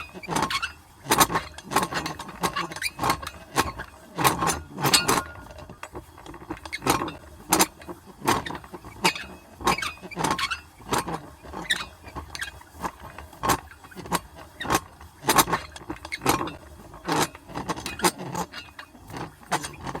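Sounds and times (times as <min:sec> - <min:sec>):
metal hand-crank wheel clanking: 0:00.0 - 0:20.0.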